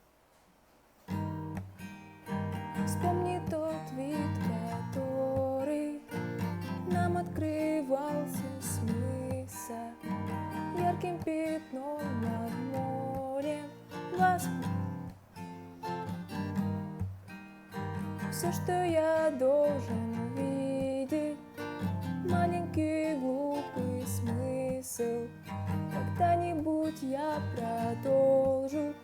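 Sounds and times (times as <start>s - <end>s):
acoustic guitar playing: 1.1s - 29.0s.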